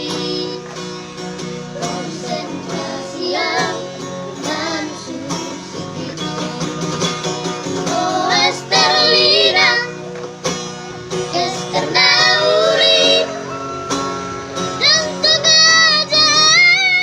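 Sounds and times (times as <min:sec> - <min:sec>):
children singing: 0:00.0 - 0:00.7, 0:01.7 - 0:10.0, 0:11.2 - 0:14.0, 0:14.7 - 0:17.0
guitar backing: 0:00.0 - 0:17.0.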